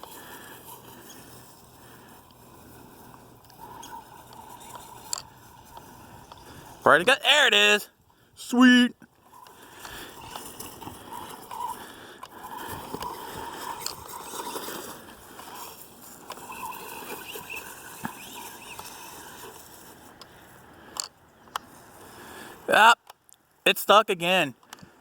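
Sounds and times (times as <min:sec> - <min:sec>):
tyres rustling through grass: 0:00.0 - 0:07.0, 0:09.0 - 0:22.7.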